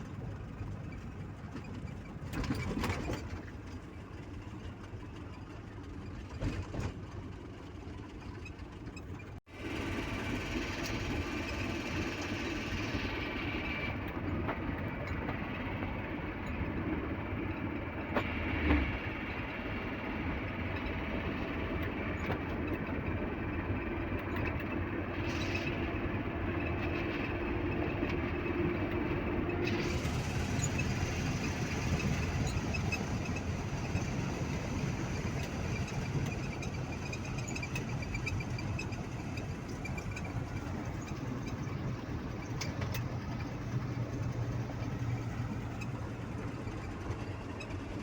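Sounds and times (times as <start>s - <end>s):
vehicle rumbling on the move: 0.0s - 48.0s.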